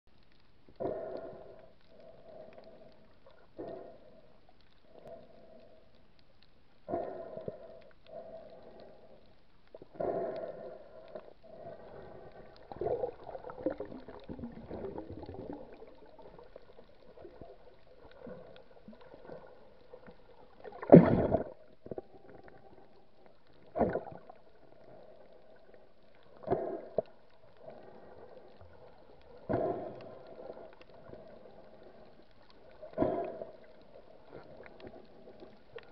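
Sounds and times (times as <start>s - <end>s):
muffled underwater hum: 0.1s - 35.9s
water gurgling and sloshing: 0.1s - 35.9s.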